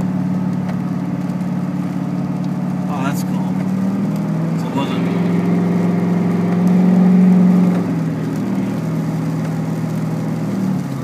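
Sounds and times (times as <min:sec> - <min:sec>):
car engine droning inside cabin: 0:00.0 - 0:11.0.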